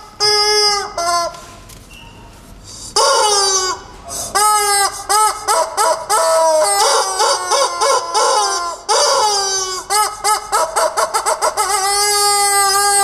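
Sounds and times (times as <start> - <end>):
rubber chicken toy squawking: 0.0 - 1.5, 2.9 - 13.0.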